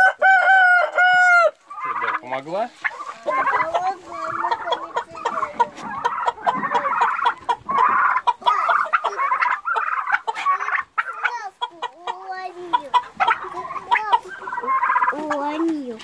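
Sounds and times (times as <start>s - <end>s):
chickens clucking: 0.0s - 16.0s
turkeys chirping calls: 0.0s - 16.0s.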